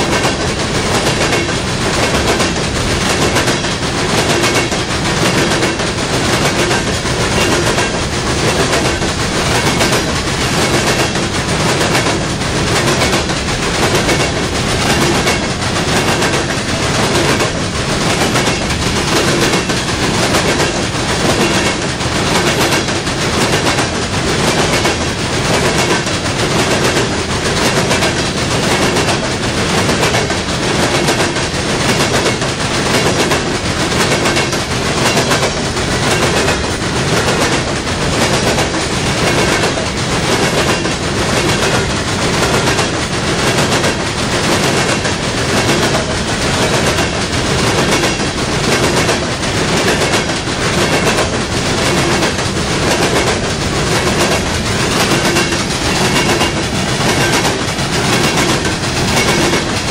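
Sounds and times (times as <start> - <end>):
train wheels clattering: 0.0 - 59.9.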